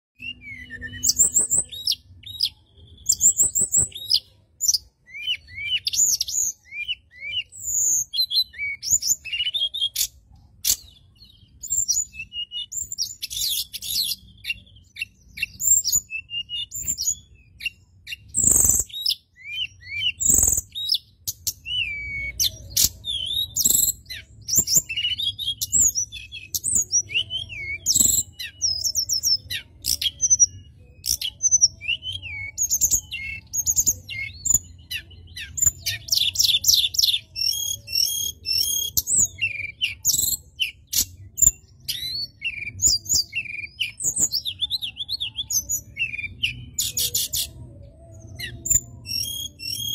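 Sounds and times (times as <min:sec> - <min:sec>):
birds chirping: 0:00.2 - 0:49.9.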